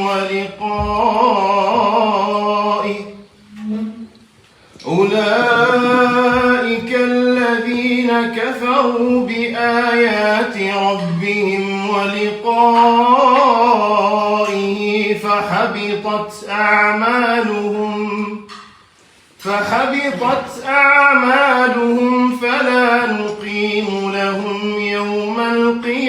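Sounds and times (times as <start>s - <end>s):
man chanting recitation: 0.0s - 18.6s, 19.4s - 26.0s.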